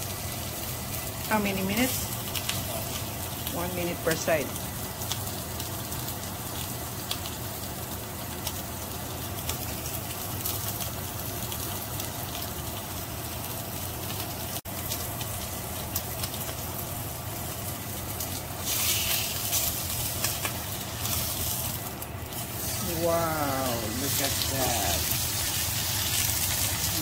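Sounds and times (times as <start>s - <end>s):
steak sizzling in a skillet: 0.0s - 27.0s.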